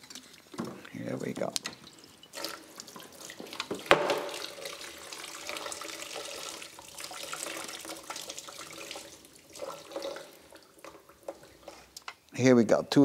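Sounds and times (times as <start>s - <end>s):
liquid pouring in a stream: 0.0s - 11.9s.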